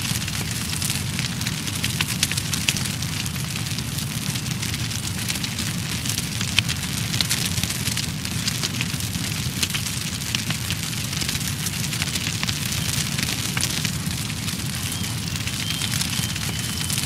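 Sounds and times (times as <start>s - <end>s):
fire burning and crackling: 0.0s - 17.0s.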